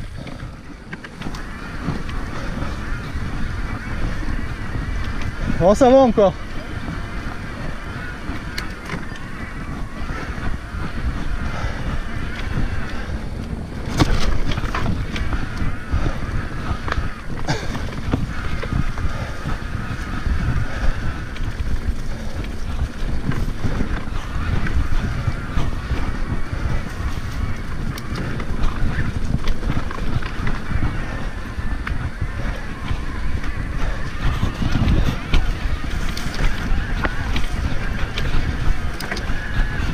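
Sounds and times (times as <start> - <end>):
bike tyres rumbling and rattling: 0.0 - 39.9
wavering whine: 0.0 - 39.9
wind buffeting microphone: 0.0 - 39.9.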